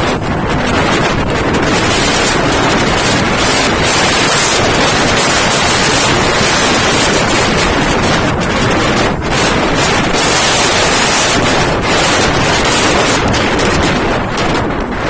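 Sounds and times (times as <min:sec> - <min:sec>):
rough surf: 0:00.0 - 0:15.0
wind buffeting microphone: 0:00.0 - 0:15.0.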